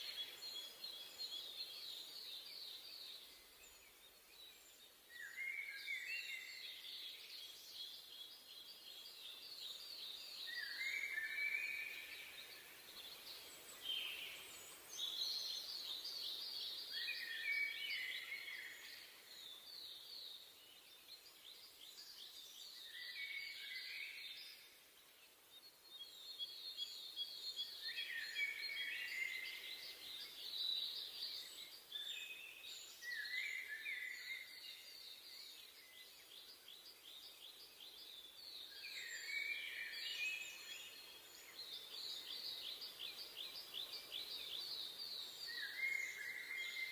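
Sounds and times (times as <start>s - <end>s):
faint background hiss: 0.0s - 46.9s
songbirds singing trills: 0.0s - 46.9s.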